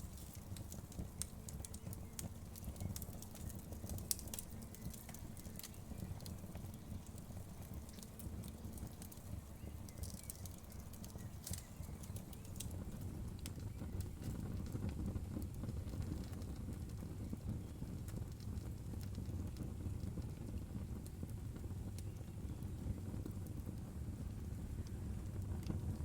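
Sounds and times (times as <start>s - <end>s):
burning wood crackling and popping: 0.0s - 26.0s
fire flames rumbling: 0.0s - 26.0s.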